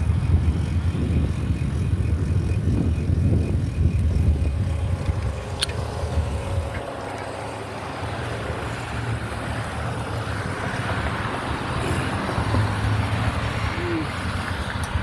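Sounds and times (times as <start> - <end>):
bicycle road and wind noise: 0.0 - 15.0.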